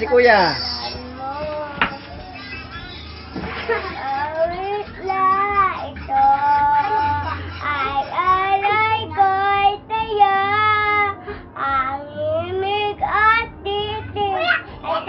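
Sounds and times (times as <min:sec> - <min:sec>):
girl singing unaccompanied: 0:00.7 - 0:15.0.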